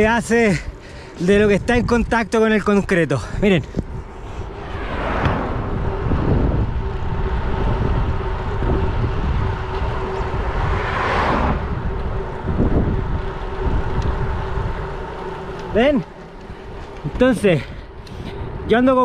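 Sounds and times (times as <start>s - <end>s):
bike tyres rolling on concrete: 0.0s - 19.0s
wind rushing over microphone: 0.0s - 19.0s.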